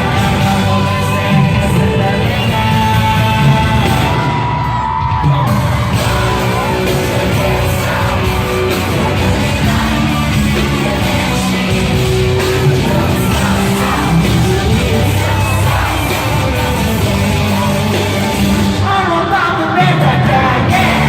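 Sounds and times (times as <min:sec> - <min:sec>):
live pop-rock music: 0:00.0 - 0:21.0
person singing: 0:00.0 - 0:21.0.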